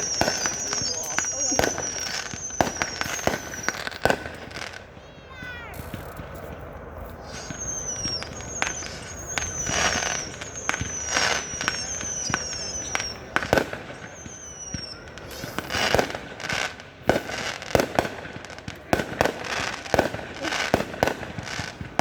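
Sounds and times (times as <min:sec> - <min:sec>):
firework bangs: 0:00.0 - 0:22.0
firework crackling: 0:00.0 - 0:22.0
firework whistles: 0:00.0 - 0:22.0.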